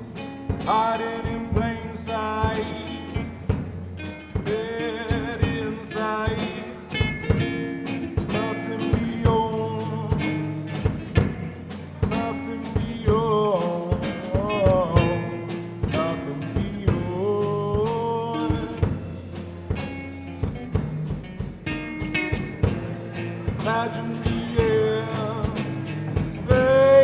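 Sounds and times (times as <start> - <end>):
drum kit beating: 0.0 - 27.0
rock band playing: 0.0 - 27.0
sliding lead melody: 0.0 - 27.0.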